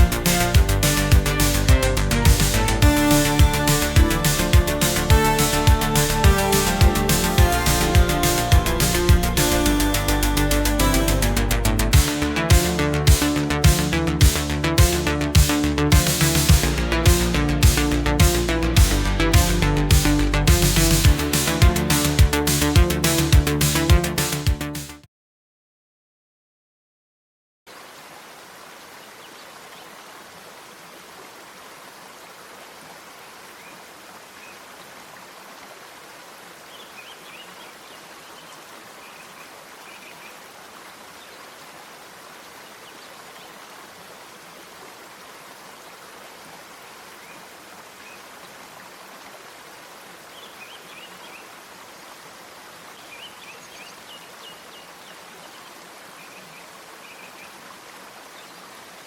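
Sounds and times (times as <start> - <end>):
stream water running: 0.0 - 23.8, 27.7 - 59.0.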